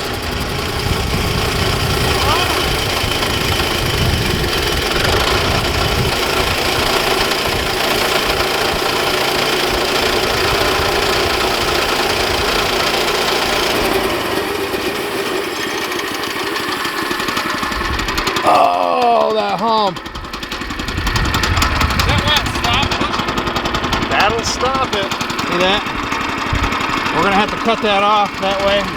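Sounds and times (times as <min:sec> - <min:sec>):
sawmill engine cutting log: 0:00.0 - 0:28.9.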